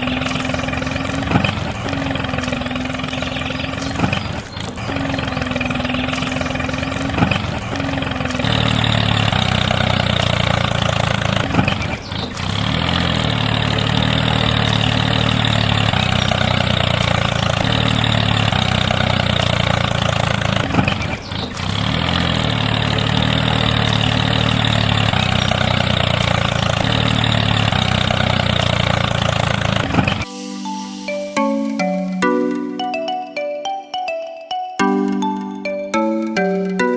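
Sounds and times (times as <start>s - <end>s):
engine running with low chug: 0.0s - 30.3s.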